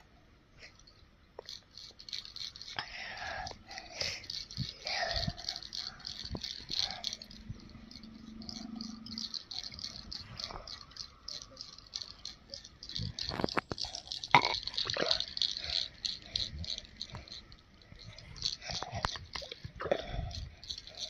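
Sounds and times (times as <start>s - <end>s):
insects chirping: 1.4s - 21.0s.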